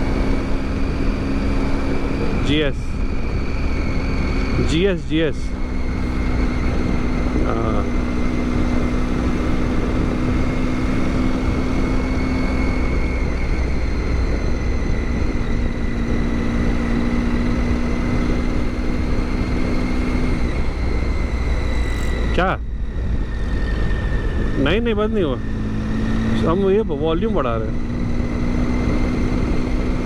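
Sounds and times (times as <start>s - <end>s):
motorcycle engine hum: 0.0s - 30.0s
road noise: 0.0s - 30.0s
wind noise: 0.0s - 30.0s.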